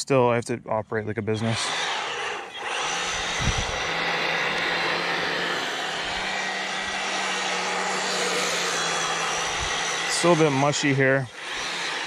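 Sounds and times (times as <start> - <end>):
electric motor hum and whine: 1.3 - 12.0.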